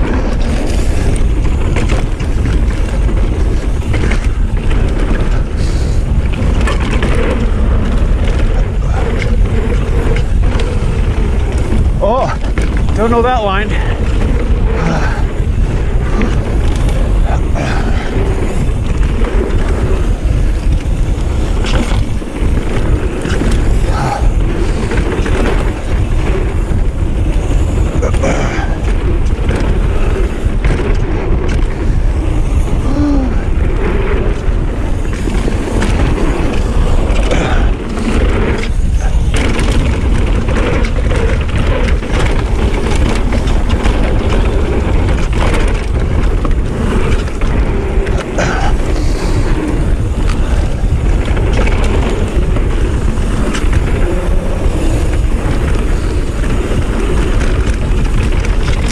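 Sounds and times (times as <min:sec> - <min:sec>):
bike chain and frame clattering: 0:00.0 - 0:58.9
tyre roll and wind rush: 0:00.0 - 0:58.9.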